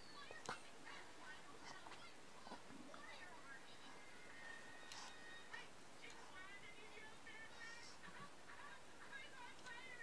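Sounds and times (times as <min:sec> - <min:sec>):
cartoon soundtrack from television: 0:00.0 - 0:10.0.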